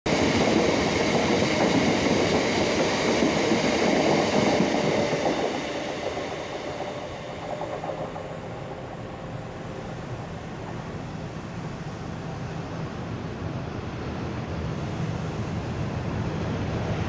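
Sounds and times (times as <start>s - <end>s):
freight train wheels rumbling: 0.1s - 17.0s.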